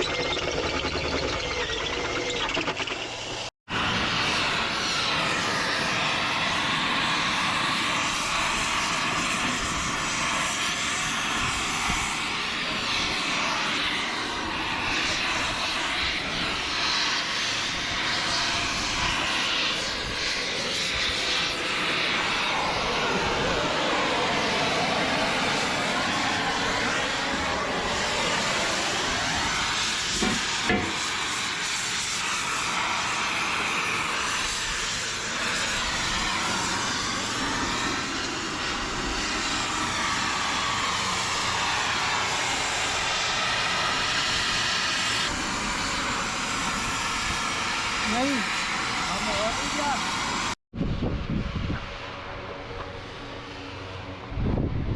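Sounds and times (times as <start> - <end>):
workshop tool rushing hiss: 4.1 - 50.6.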